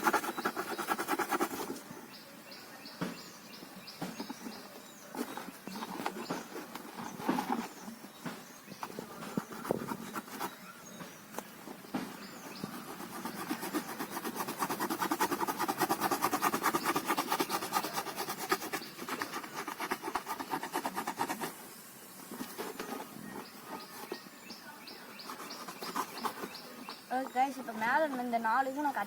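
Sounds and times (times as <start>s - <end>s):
knife sawing through cardboard: 0.0s - 1.9s, 4.1s - 10.6s, 11.7s - 27.7s
light scrapes and clicks: 3.9s - 21.6s, 22.2s - 29.0s.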